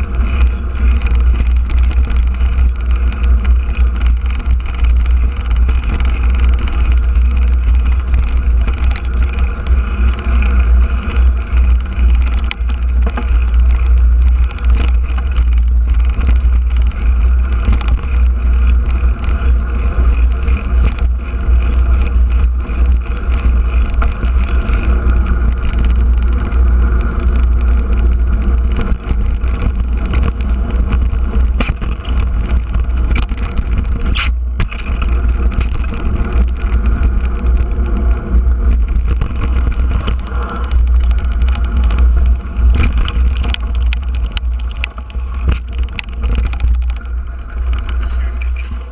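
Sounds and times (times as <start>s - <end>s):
bike rattling on rough trail: 0.0s - 48.9s
wind buffeting microphone: 0.0s - 48.9s.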